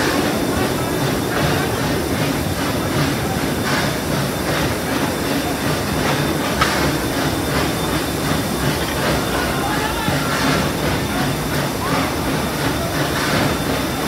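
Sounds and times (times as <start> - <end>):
steam locomotive exhaust chuffing: 0.0 - 14.0
train wheels clickety-clack: 0.0 - 14.0.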